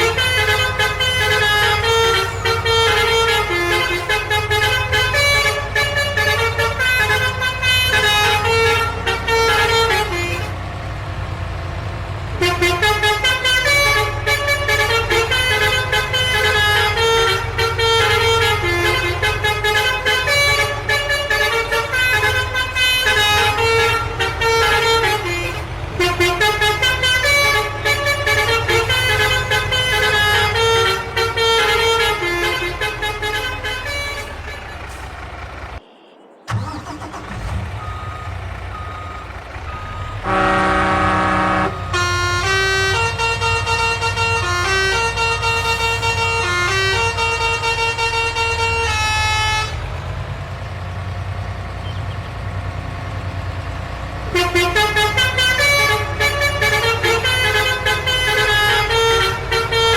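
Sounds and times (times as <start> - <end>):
cartoon horn toots: 0.0 - 10.6, 12.4 - 35.1, 36.5 - 37.5, 40.2 - 49.8, 54.3 - 59.9
low engine hum: 0.0 - 59.9.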